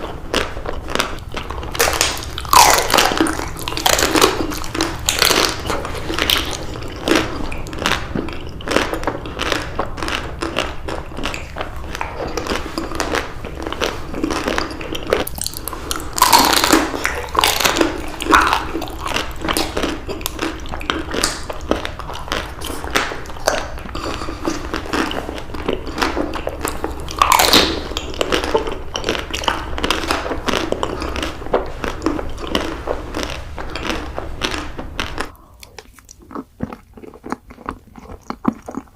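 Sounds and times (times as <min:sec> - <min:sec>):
chewing: 0:00.0 - 0:38.9
crunchy bites: 0:00.0 - 0:38.9.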